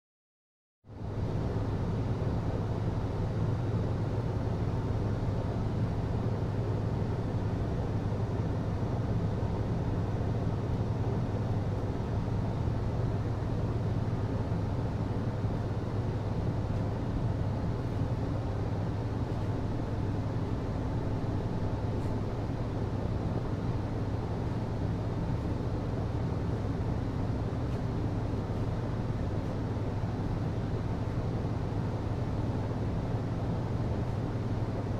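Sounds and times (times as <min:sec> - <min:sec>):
ventilation system hum: 0:00.9 - 0:34.9.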